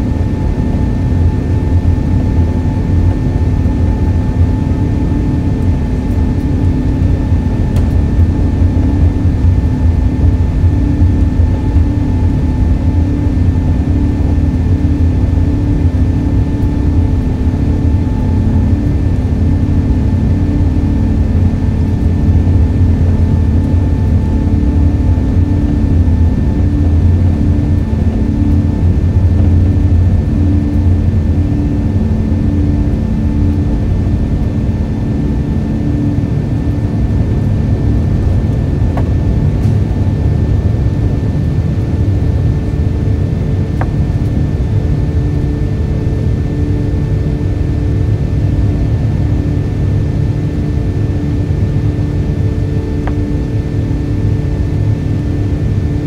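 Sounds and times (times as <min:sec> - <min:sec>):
jet engine whine: 0:00.0 - 0:56.0
jet engines rumbling: 0:00.0 - 0:56.0.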